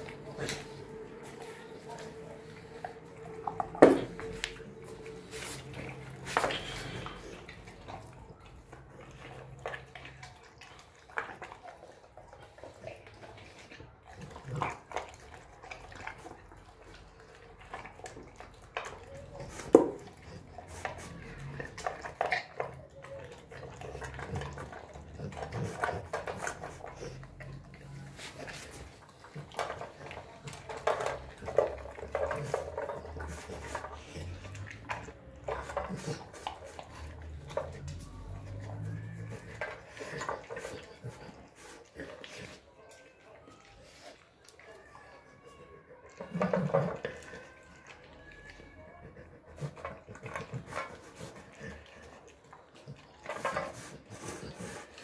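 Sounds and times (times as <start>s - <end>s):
dog chewing and slurping: 0.0s - 55.0s.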